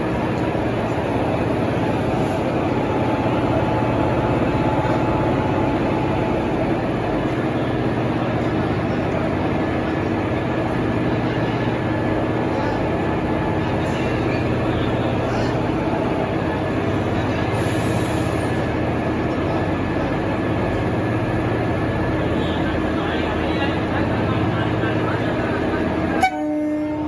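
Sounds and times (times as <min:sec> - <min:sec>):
electric locomotive drone: 0:00.0 - 0:27.0.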